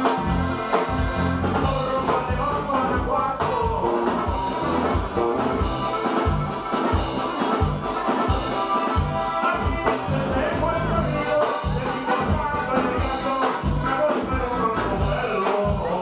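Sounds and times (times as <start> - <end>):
live band music with accordion: 0.0 - 16.0.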